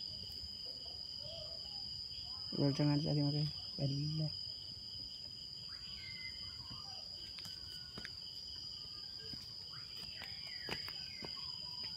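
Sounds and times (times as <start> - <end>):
night insects trilling: 0.0 - 11.9.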